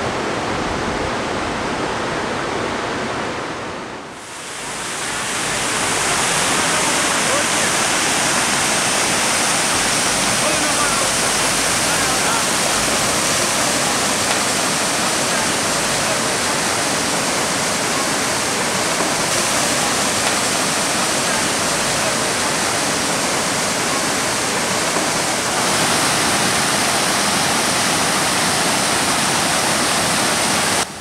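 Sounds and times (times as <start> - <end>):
waterfall rushing over rocks: 4.0 - 31.0.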